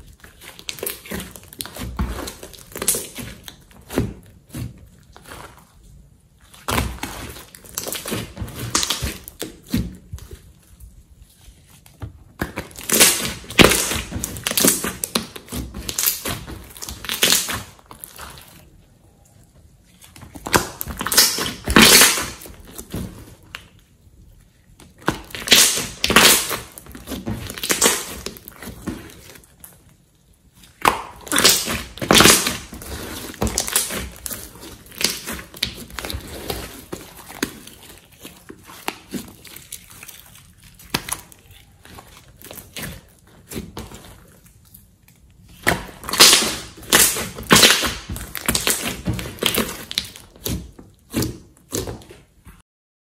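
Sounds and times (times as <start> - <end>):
slime squelching and popping: 0.0 - 19.3, 19.9 - 52.6.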